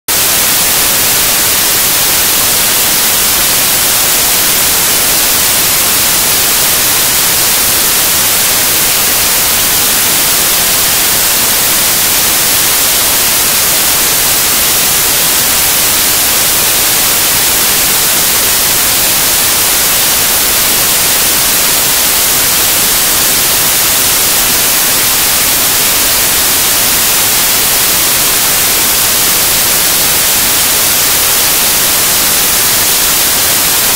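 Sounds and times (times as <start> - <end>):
loud white noise hiss: 0.0 - 33.9.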